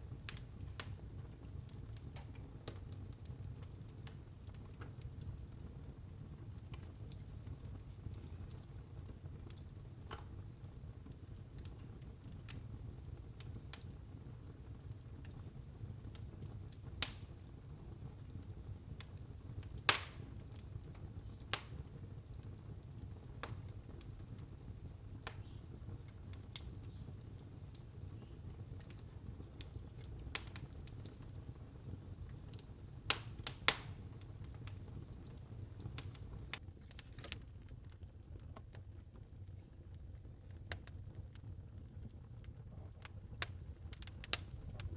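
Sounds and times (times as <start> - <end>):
fire crackling and popping: 0.0 - 44.9
low fire rumble: 0.0 - 44.9.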